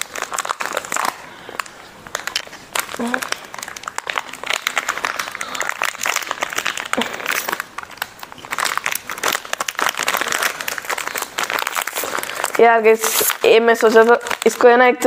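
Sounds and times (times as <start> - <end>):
wrapper crinkling: 0.0 - 15.0.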